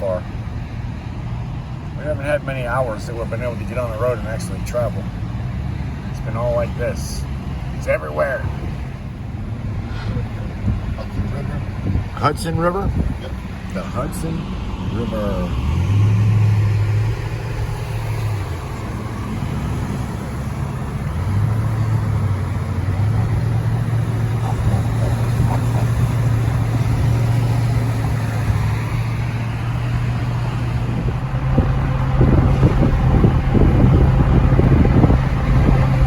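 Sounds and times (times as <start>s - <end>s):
tyre and road noise: 0.0s - 36.0s
vehicle engine hum: 0.0s - 36.0s.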